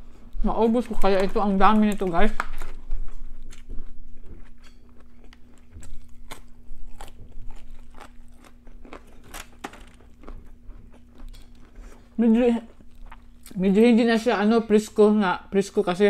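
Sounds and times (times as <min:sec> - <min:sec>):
crunchy chewing of cauliflower: 0:00.0 - 0:13.6.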